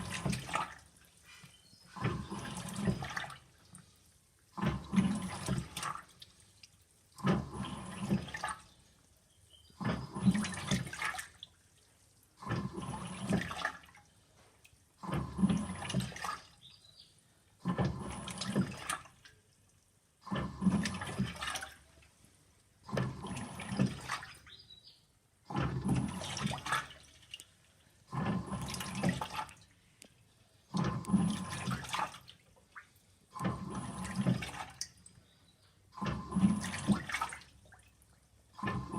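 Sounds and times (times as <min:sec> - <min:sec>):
washing machine water sloshing: 0:00.0 - 0:38.9.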